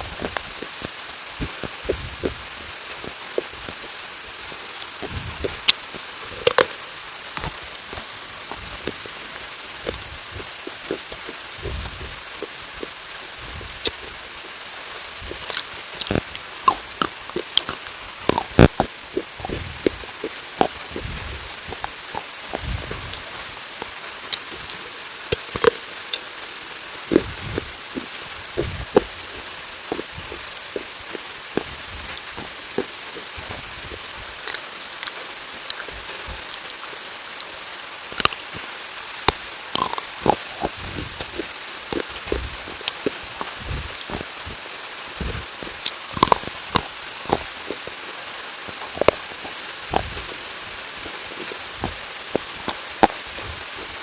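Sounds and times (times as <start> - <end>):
rain hiss: 0.0 - 54.0
raindrops tapping surfaces: 0.0 - 54.0.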